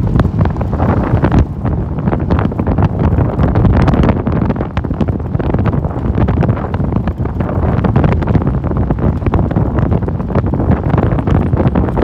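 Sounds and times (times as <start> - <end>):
vehicle driving noise: 0.0 - 12.0
wind buffeting microphone: 0.0 - 12.0.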